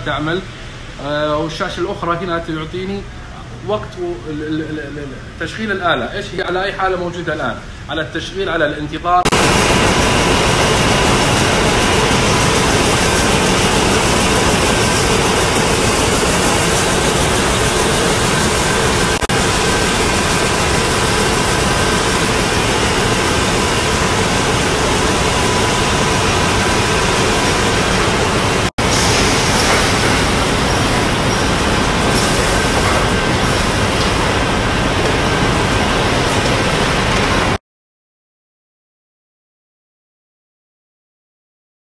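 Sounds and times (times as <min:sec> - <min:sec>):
machinery hiss and hum: 0:00.0 - 0:37.6.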